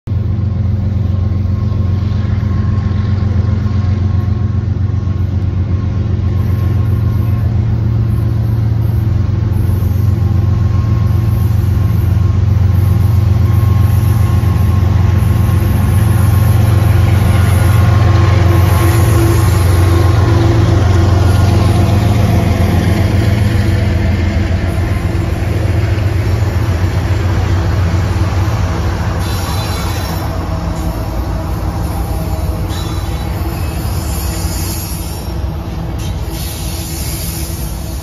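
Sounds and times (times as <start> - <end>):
locomotive engine rumble: 0.1 - 38.0.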